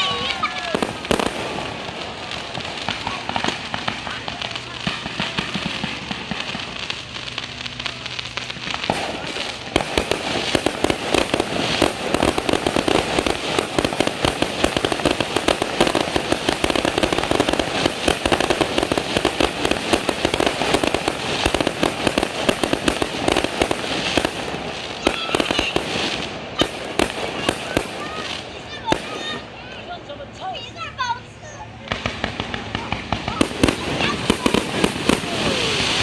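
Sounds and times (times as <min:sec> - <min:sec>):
fireworks crackling bangs: 0:00.0 - 0:36.0.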